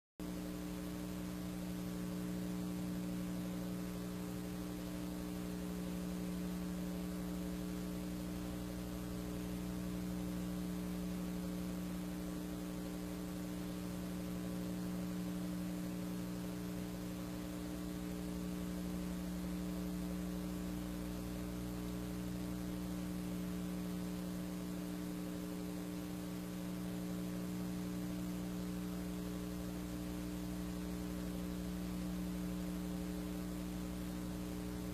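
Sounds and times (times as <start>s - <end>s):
electrical mains hum: 0.2s - 34.9s.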